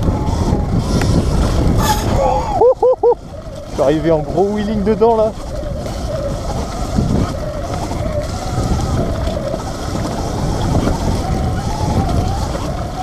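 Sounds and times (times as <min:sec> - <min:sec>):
electric motor whine: 0:00.0 - 0:02.8, 0:03.4 - 0:13.0
wind on microphone: 0:00.0 - 0:13.0.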